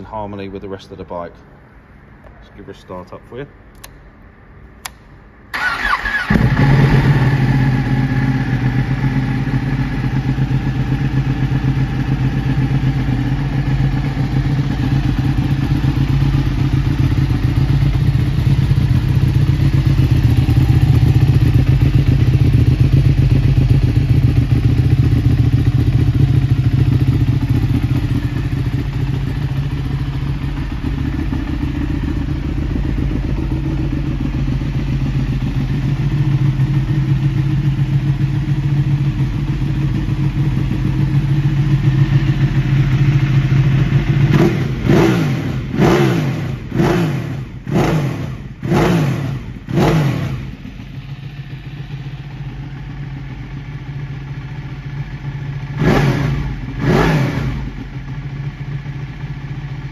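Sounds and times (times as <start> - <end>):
motorcycle engine idling: 5.5 - 59.9.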